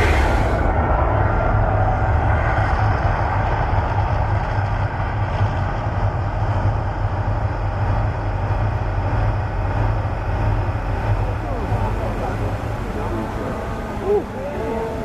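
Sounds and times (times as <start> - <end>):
deep steady rumble: 0.0 - 15.0.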